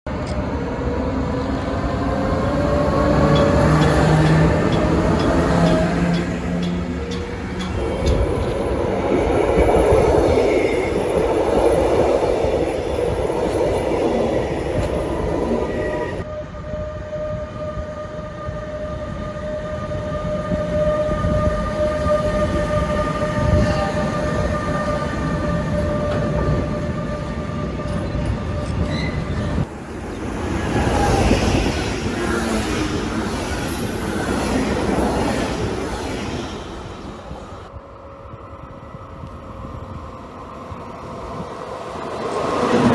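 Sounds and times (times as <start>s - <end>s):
train running past: 0.1s - 42.9s.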